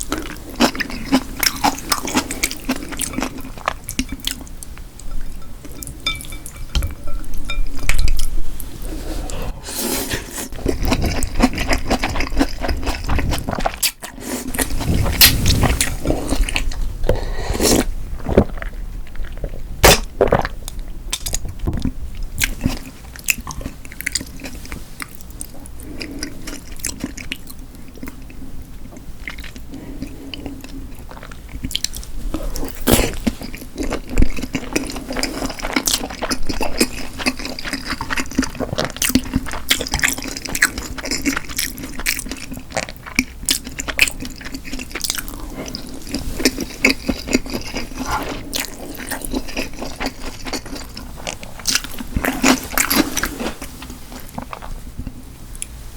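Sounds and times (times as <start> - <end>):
person chewing food: 0.0 - 55.7.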